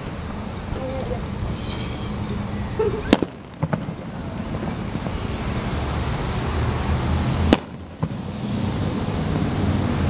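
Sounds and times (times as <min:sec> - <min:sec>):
steady low rumble: 0:00.0 - 0:10.0
firework crack: 0:01.0 - 0:10.0
firework rushing hiss: 0:01.2 - 0:10.0.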